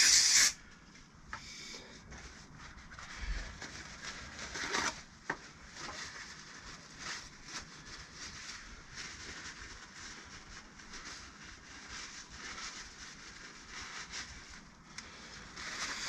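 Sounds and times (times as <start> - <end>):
soft rubbing strokes: 1.4 - 16.0.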